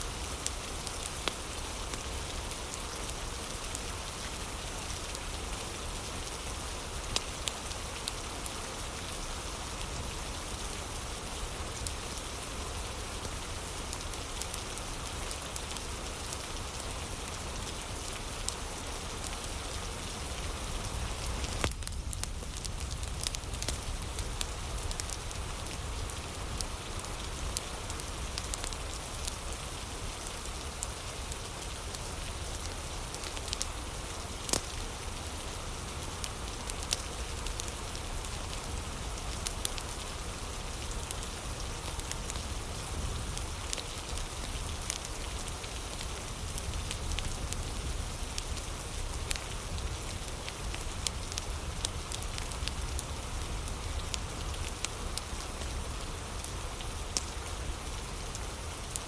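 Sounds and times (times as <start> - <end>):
steady rain: 0.0 - 59.0
wood fire crackling and popping: 0.3 - 9.2, 13.7 - 59.0.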